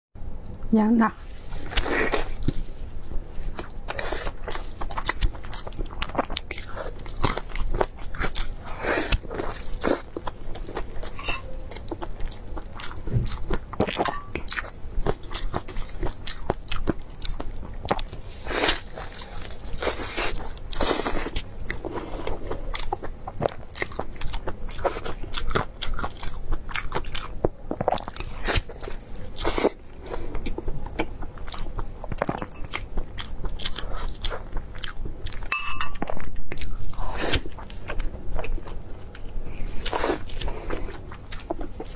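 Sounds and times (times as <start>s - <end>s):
crunchy food biting and chewing: 1.5s - 41.9s.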